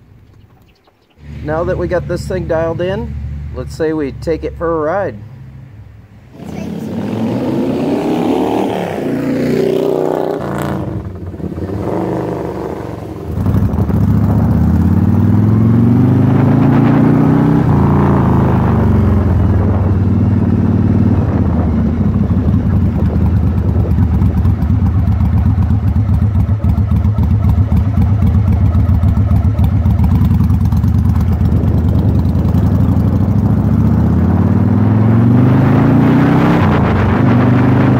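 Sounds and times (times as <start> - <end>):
motorcycle engine accelerating: 0.5 - 37.9.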